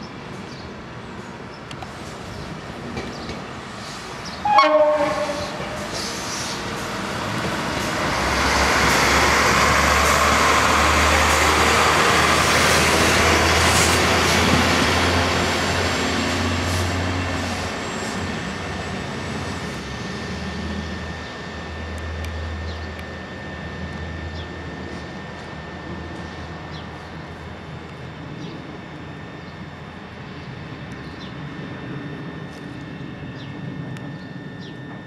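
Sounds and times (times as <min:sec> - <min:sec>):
wheels rushing on rails: 0:01.2 - 0:35.0
diesel engine drone: 0:03.6 - 0:35.0.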